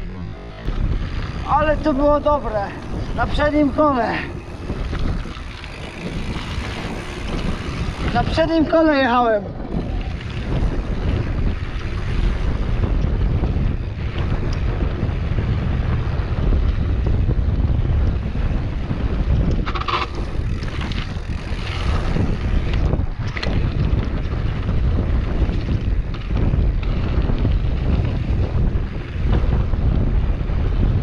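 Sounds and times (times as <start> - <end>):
bike clatter: 0.0 - 31.0
bike rattle: 0.0 - 31.0
bike tyres rumbling: 0.0 - 31.0
wind buffeting microphone: 0.0 - 31.0.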